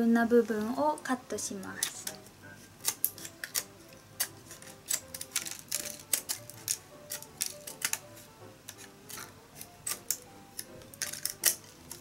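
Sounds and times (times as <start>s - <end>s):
scissors snipping bamboo: 1.7s - 12.0s.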